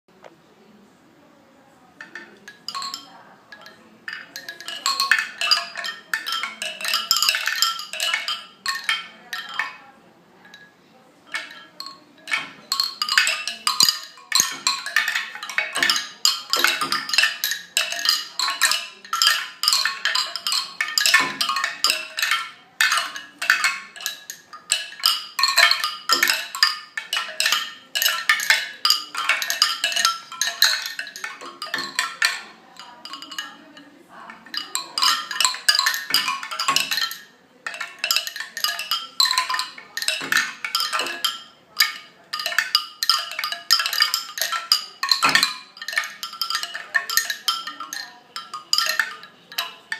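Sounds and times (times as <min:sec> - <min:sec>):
bamboo wind chime clattering: 0:02.0 - 0:49.9.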